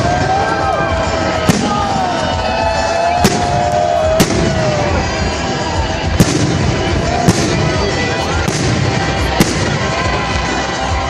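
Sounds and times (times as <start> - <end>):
firework crackle: 0.0 - 11.0.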